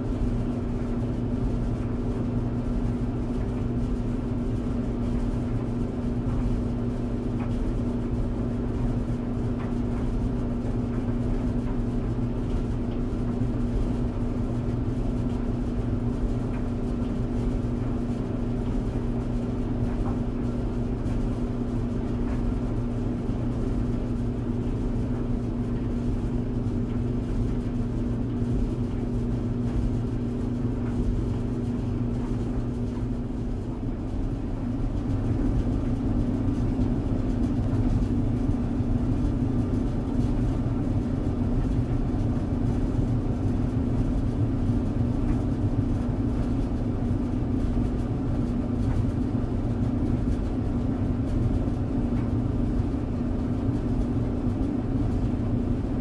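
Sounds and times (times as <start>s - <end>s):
tumble dryer running: 0.0s - 56.0s.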